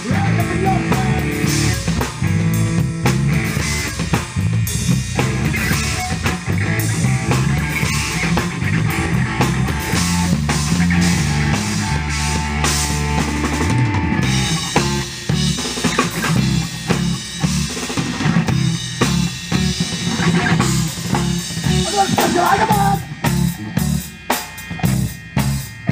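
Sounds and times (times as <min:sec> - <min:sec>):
busy bass line: 0:00.0 - 0:25.9
rock-funk band playing: 0:00.0 - 0:25.9.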